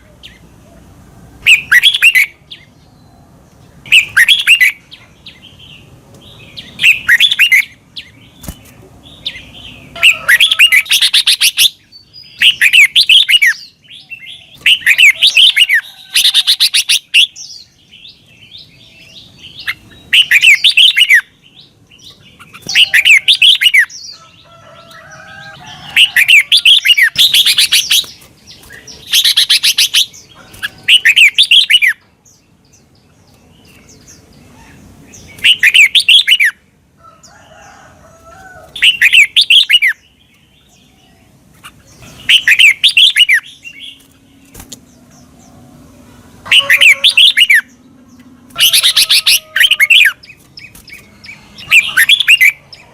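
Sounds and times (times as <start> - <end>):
bird singing warbled phrases: 0.0 - 37.6, 38.5 - 52.9.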